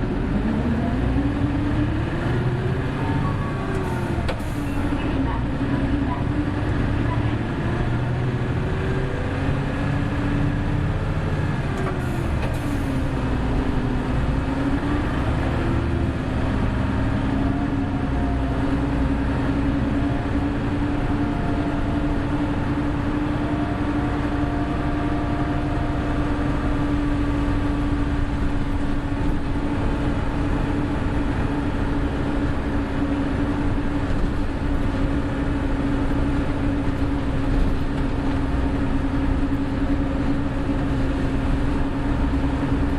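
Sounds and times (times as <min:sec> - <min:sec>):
bus running drone: 0:00.0 - 0:42.9.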